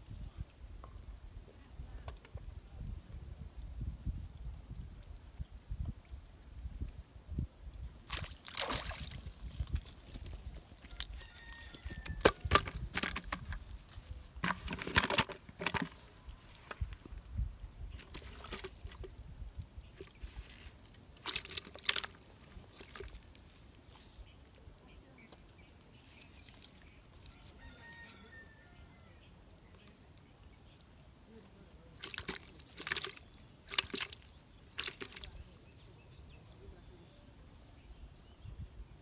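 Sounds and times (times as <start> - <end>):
water splashing and rustling: 0.0 - 38.1.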